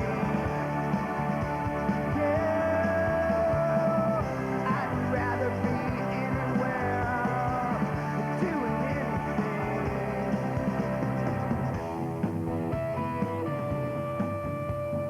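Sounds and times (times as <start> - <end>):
rock music with wavering lead: 0.0 - 15.0.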